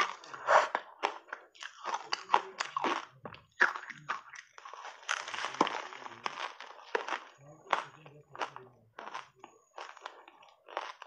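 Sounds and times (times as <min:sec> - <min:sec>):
ice crunching being chewed: 0:00.0 - 0:11.0.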